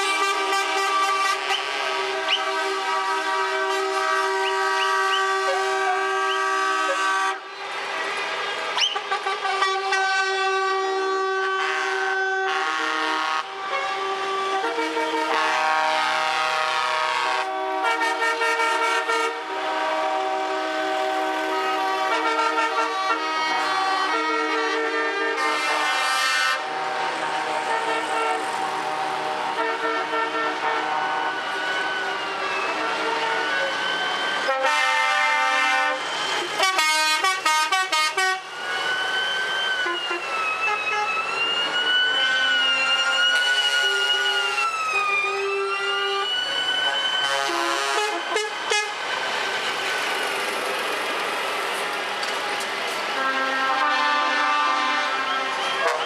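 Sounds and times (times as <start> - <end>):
truck air horns blaring: 0.0 - 7.5, 8.7 - 38.6, 39.7 - 41.3, 42.0 - 49.0, 53.0 - 56.0.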